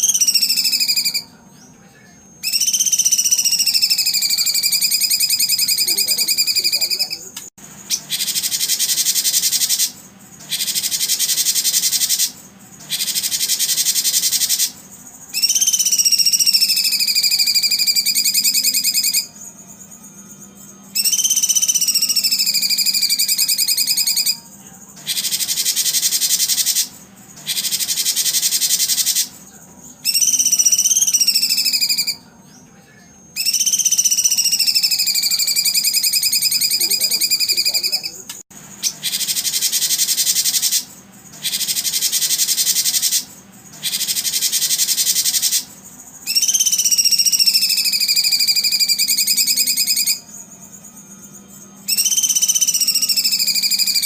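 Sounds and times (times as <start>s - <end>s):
songbird whistled notes: 0.0s - 1.8s, 2.4s - 7.3s, 7.9s - 32.6s, 33.3s - 54.0s
songbird buzzing trills: 0.0s - 32.3s, 33.3s - 54.0s.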